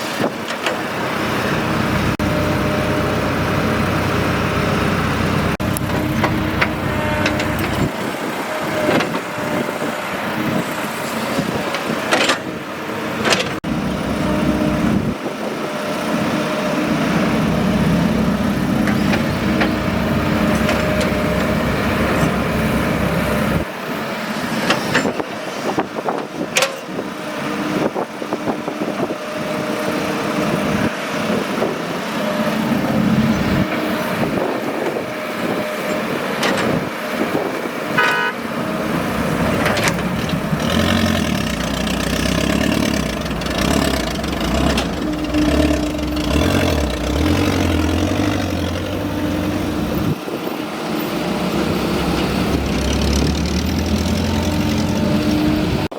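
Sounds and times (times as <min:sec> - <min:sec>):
excavator engine rumble: 0:00.0 - 0:55.9.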